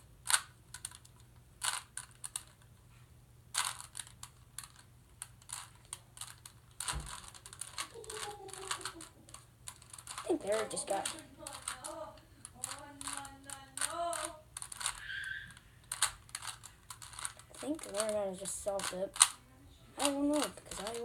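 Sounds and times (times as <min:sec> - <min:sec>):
puzzle cube clicking: 0:00.2 - 0:02.7, 0:03.5 - 0:19.4, 0:20.0 - 0:21.0.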